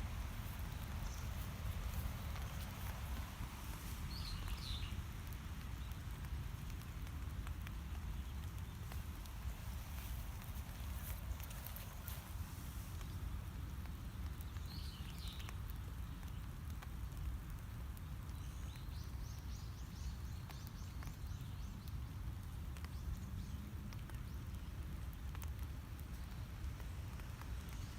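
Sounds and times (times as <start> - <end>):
faint ticks: 0.2 - 27.9.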